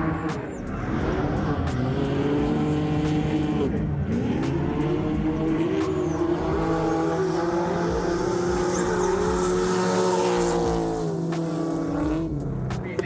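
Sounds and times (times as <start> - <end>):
car engine revving: 0.0 - 13.0
steady engine note: 0.0 - 13.0.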